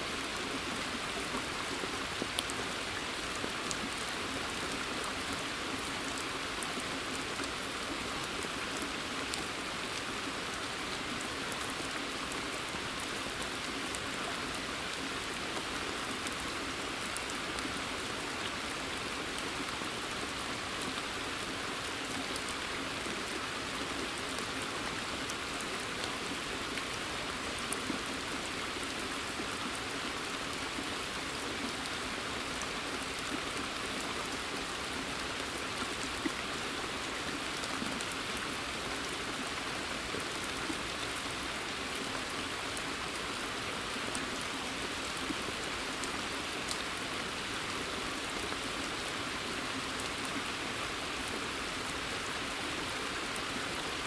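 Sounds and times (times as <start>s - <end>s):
rain falling on forest and pond: 0.0s - 54.0s.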